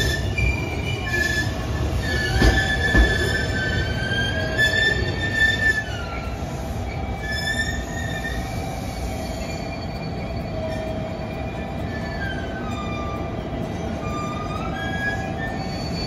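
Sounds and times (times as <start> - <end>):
train rumbling: 0.0 - 16.0
train wheels squealing on rails: 0.0 - 16.0.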